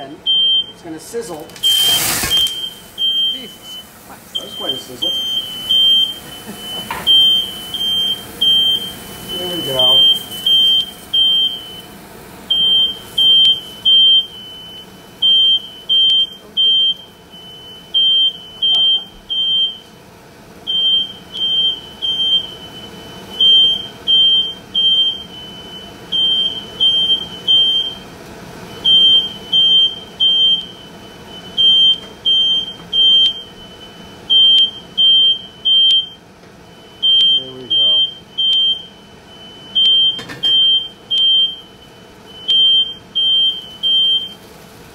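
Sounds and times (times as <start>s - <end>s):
smoke alarm beeping: 0.0s - 19.9s, 20.6s - 28.0s, 28.7s - 44.4s.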